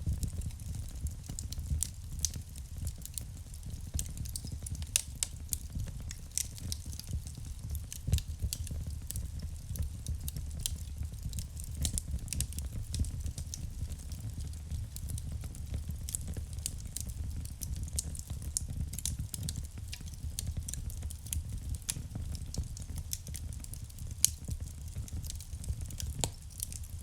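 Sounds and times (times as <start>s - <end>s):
fire crackling and popping: 0.0s - 27.0s
low rumble of burning: 0.0s - 27.0s.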